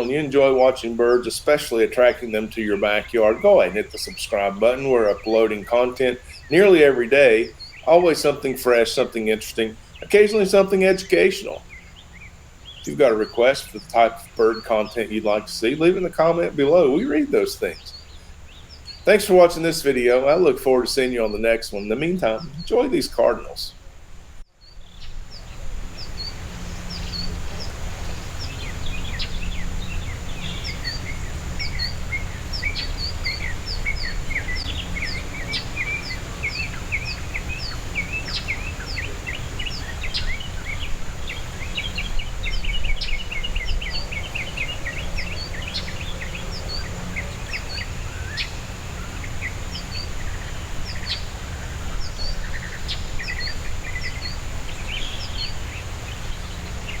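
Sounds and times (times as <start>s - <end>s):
birds chattering: 0.0s - 57.0s
low outdoor rumble: 0.0s - 57.0s
songbirds chirping: 0.0s - 57.0s.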